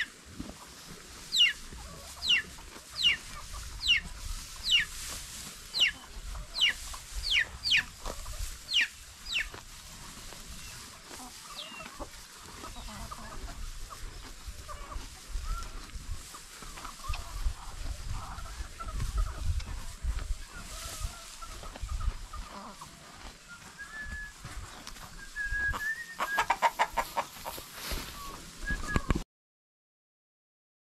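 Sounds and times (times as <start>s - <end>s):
chickens clucking: 0.0s - 29.2s.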